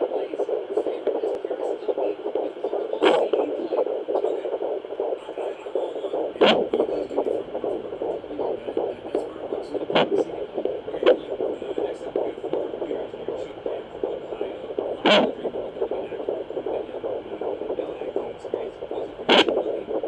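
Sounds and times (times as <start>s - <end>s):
fetal heartbeat on doppler: 0.0s - 20.0s.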